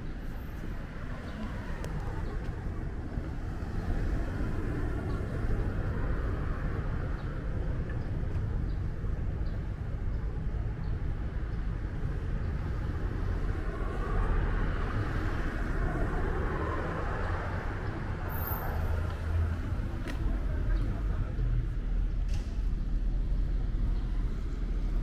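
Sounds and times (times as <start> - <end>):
low traffic rumble: 0.0 - 25.0.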